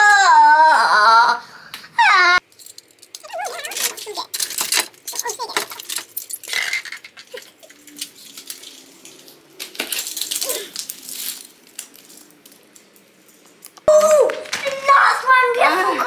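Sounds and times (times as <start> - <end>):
plastic toys clattering: 2.4 - 16.0.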